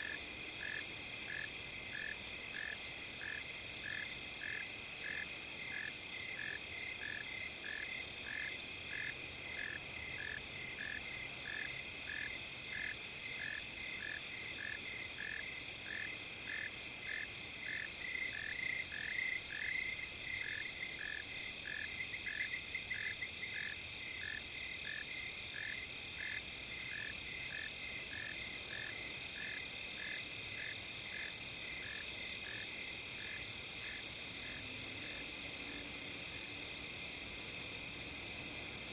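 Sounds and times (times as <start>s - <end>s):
low insect chirp: 0.0s - 38.9s.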